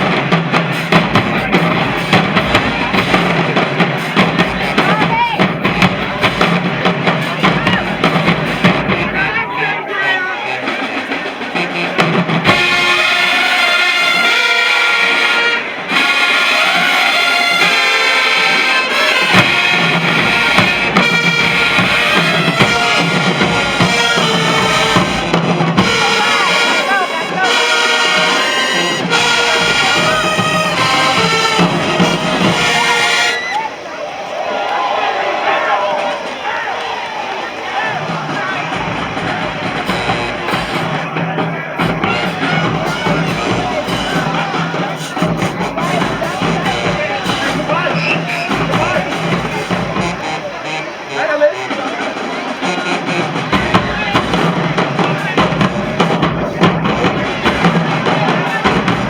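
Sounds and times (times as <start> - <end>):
steady drum beat: 0.0 - 33.5, 37.5 - 59.0
low horn notes: 0.0 - 34.0, 37.0 - 59.0
brass instruments: 0.0 - 59.0
marching band playing: 0.0 - 59.0.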